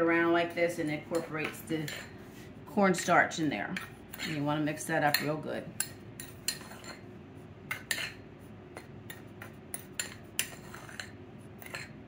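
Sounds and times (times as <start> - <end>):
spoon scraping ceramic bowl: 0.9 - 4.5, 5.1 - 7.1, 7.7 - 12.0.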